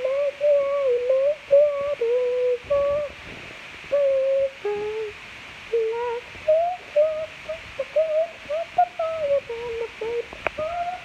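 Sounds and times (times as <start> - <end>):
boy humming: 0.0 - 3.2, 3.9 - 5.1, 5.7 - 11.0.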